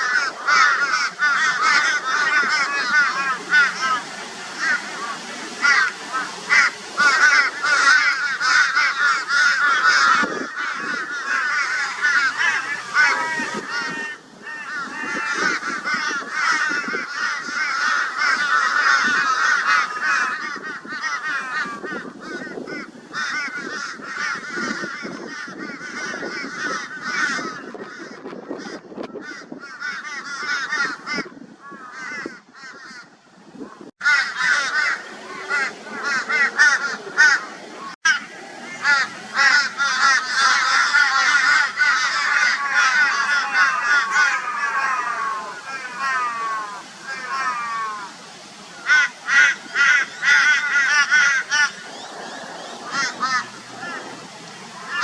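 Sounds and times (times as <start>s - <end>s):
crows cawing: 0.0s - 33.2s, 34.0s - 48.2s, 48.8s - 54.2s, 54.8s - 55.0s.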